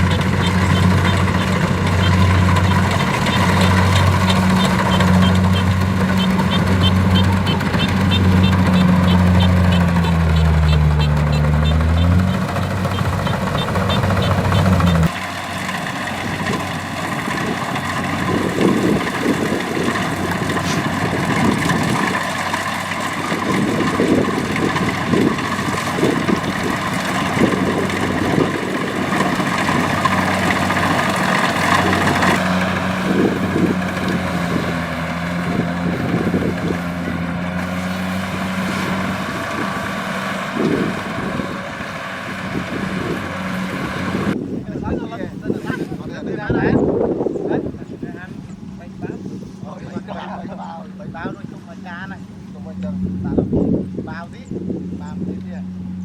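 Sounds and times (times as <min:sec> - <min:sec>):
combine harvester drone: 0:00.0 - 0:56.0.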